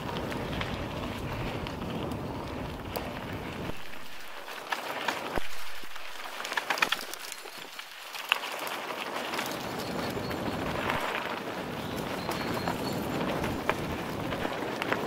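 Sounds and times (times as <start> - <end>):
bike rattling clicks: 0.0 - 15.0.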